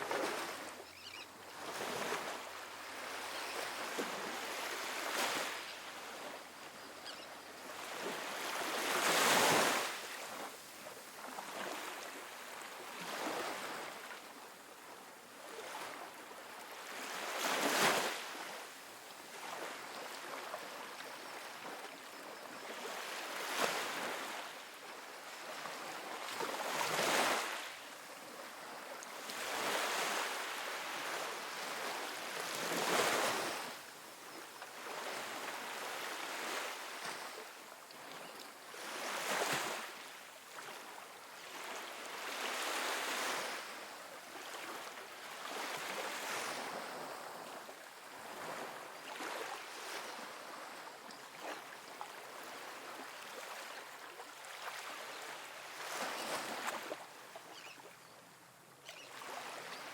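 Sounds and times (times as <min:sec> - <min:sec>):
small waves washing on beach: 0:00.0 - 0:59.9.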